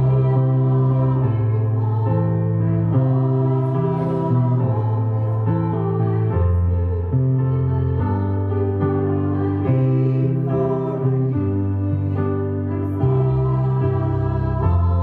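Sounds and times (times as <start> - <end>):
women's choir singing: 0.0 - 15.0.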